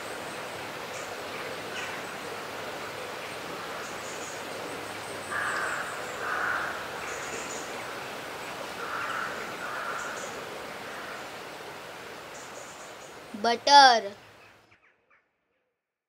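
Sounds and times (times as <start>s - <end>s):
outdoor background noise: 0.0s - 15.5s.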